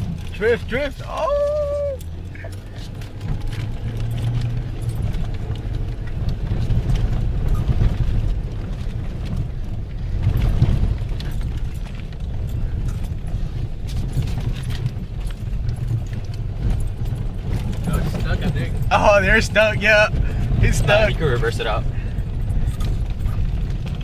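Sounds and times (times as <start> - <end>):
vehicle engine running: 0.0 - 24.0
vehicle knocks and jolts: 0.0 - 24.0.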